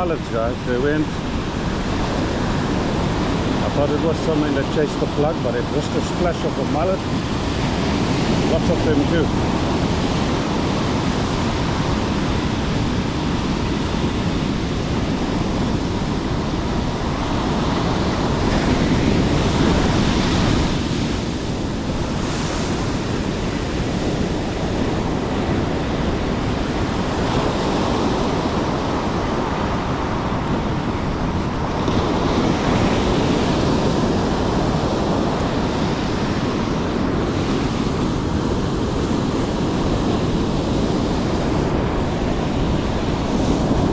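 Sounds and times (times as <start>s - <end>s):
surf washing: 0.0s - 43.9s
wind rumbling on microphone: 0.0s - 43.9s.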